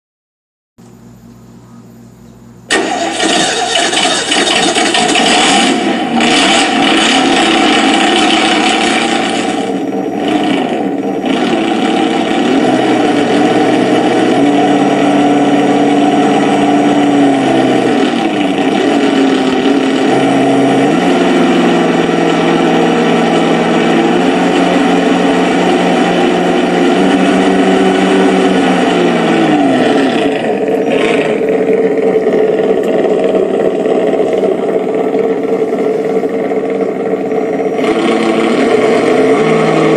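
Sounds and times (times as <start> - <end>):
simulated engine sound revving: 2.7 - 39.9.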